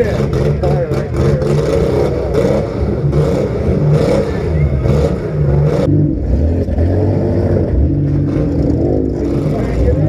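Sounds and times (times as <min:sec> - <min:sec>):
car engines revving hard: 0:00.0 - 0:10.0.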